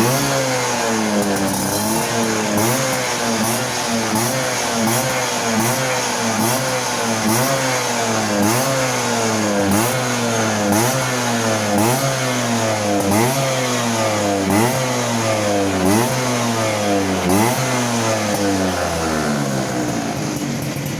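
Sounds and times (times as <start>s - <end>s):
scooter engine revving: 0.0s - 20.9s.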